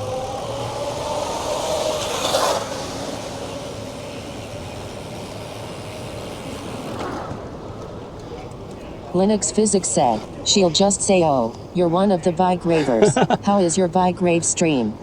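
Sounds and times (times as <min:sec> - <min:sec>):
road traffic passing: 0:00.0 - 0:15.0
vehicle passing loudly: 0:00.0 - 0:15.0.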